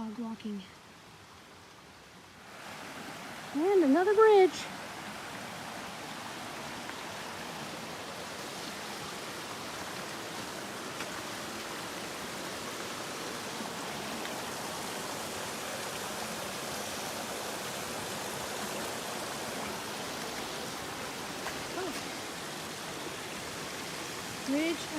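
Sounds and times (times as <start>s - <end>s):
brook water rushing: 0.0s - 24.9s.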